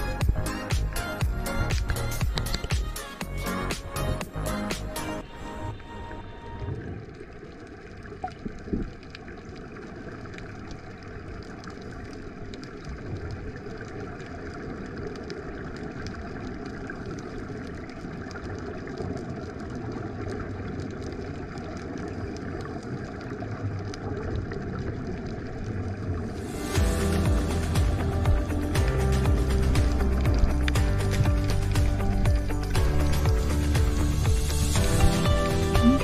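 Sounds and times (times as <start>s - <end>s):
underwater air bubbles rushing: 6.4s - 36.0s.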